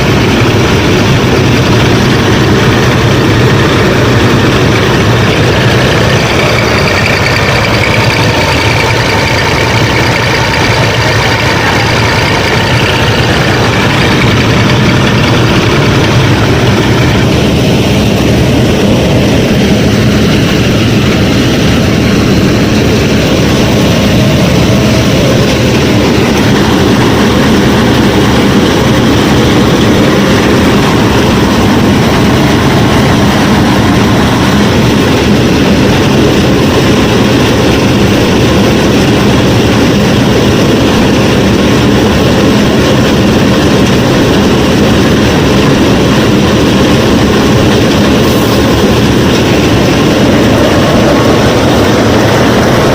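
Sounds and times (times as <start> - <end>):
combine harvester running: 0.0 - 52.9.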